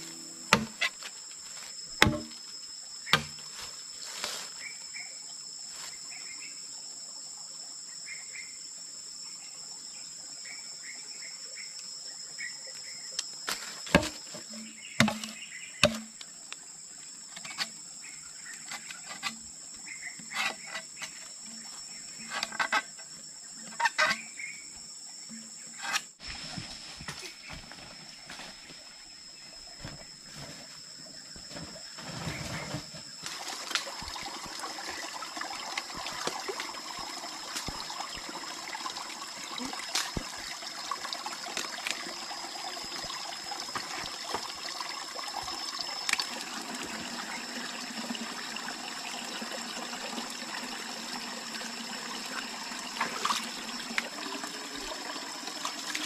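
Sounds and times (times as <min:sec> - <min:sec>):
insect chirps: 0:00.0 - 0:56.0
insects droning: 0:00.0 - 0:56.0.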